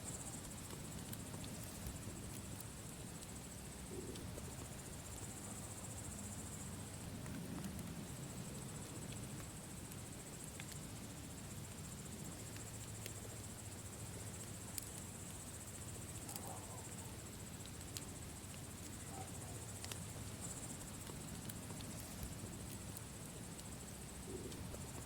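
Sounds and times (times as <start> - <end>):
campfire crackling: 0.0 - 25.0
crickets chirping: 0.0 - 25.0.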